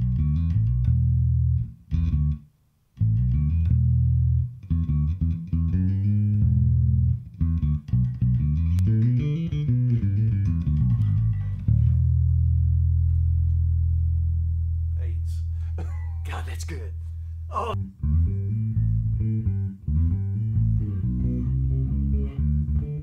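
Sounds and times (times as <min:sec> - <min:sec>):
electric bass playing: 0:00.0 - 0:23.0.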